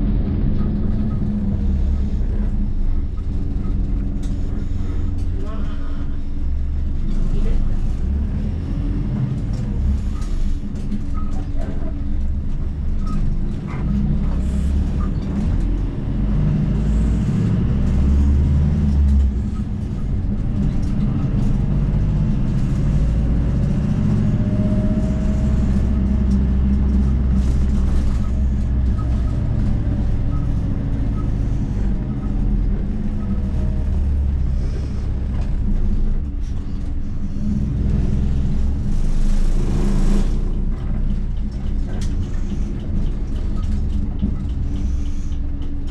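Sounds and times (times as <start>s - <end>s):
bus engine and road noise: 0.0s - 45.9s.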